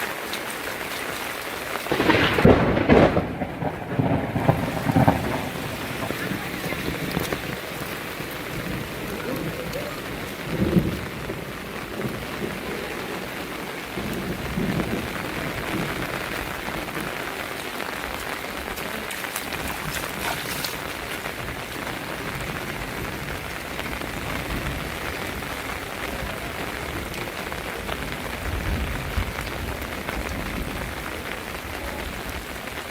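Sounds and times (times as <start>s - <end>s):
heavy rain falling: 0.0s - 32.9s
distant thunder rumble: 1.7s - 32.8s.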